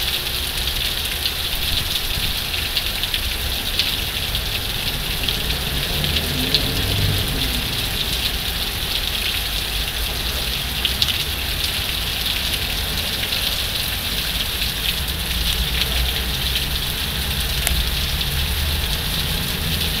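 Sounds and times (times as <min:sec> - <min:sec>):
heavy rain: 0:00.0 - 0:20.0
low rumble: 0:01.7 - 0:20.0.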